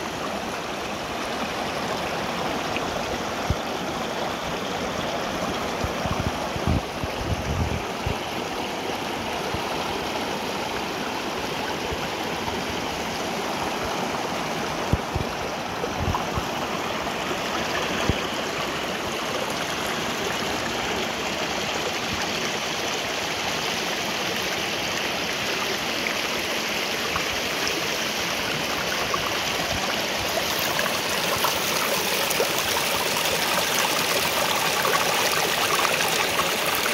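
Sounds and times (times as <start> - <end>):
stream running over rocks: 0.0 - 36.9.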